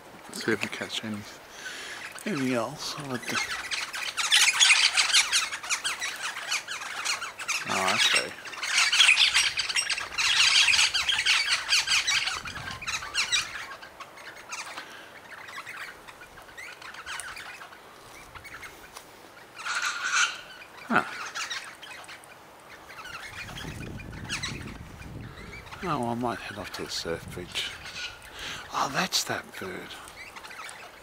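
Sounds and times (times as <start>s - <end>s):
birds chattering calls: 0.0s - 31.0s.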